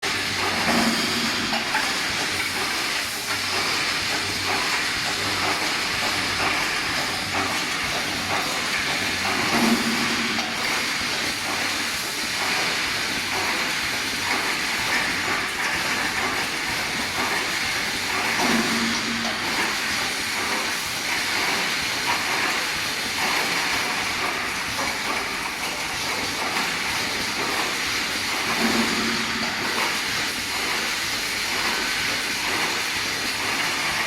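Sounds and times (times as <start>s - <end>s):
rapid machine clicking and clatter: 0.0s - 34.0s
welding machine hiss: 0.0s - 34.0s.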